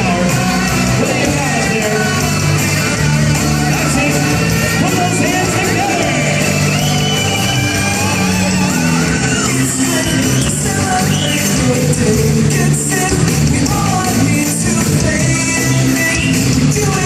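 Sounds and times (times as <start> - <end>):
upbeat rock music with singing: 0.0 - 17.0.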